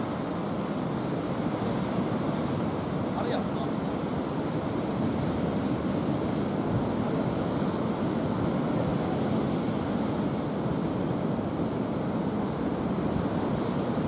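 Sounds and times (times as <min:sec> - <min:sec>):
steady rushing wind or surf: 0:00.0 - 0:14.0.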